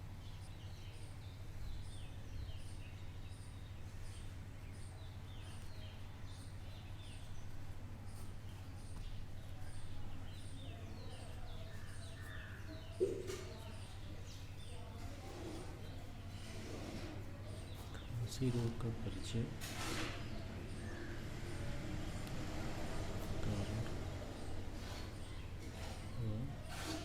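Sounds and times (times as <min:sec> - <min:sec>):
bird chirping: 0:00.0 - 0:22.3, 0:23.1 - 0:27.0
steady low hum: 0:00.0 - 0:27.0.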